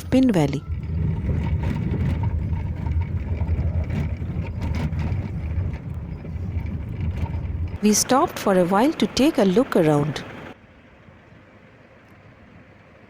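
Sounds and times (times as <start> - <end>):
vehicle engine and road rumble: 0.0 - 10.6.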